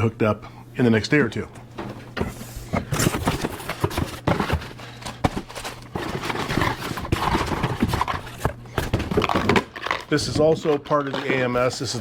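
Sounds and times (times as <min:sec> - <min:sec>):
steady low hum: 0:00.0 - 0:12.0
packaging rustling and knocking: 0:01.8 - 0:12.0.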